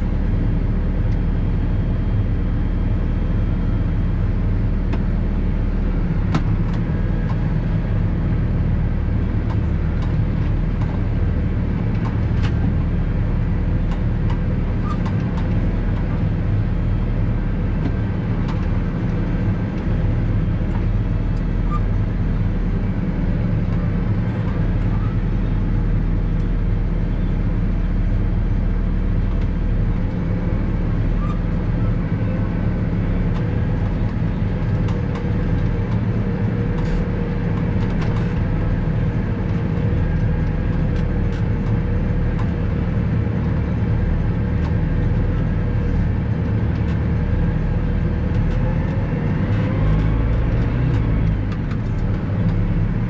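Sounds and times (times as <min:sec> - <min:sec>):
tractor diesel engine rumbling: 0:00.0 - 0:53.0.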